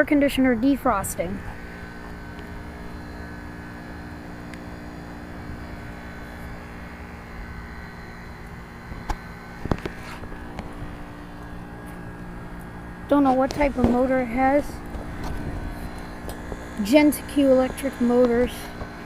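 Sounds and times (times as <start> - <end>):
heat pump mechanical hum: 0.0 - 19.0.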